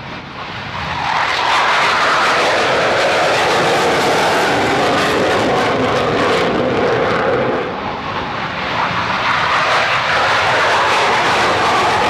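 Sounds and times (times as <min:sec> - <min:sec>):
jet engine roar on takeoff: 0:00.0 - 0:12.0.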